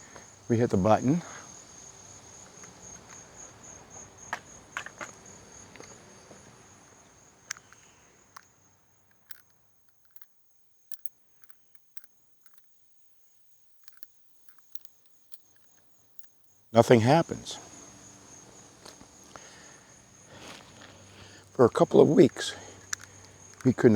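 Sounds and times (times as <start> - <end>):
low background noise: 0.0 - 23.9
light clicks: 2.4 - 16.8, 17.6 - 23.9.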